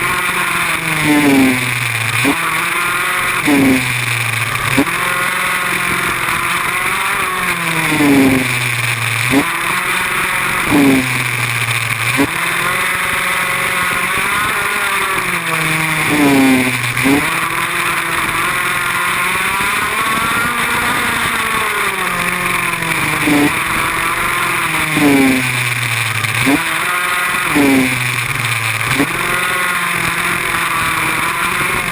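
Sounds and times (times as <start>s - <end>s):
go-kart engine revving: 0.0s - 31.9s.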